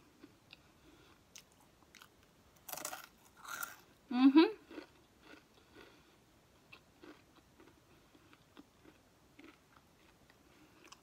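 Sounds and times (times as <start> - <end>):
chewing crunchy snack: 0.2 - 3.9, 4.6 - 6.1, 6.7 - 11.0.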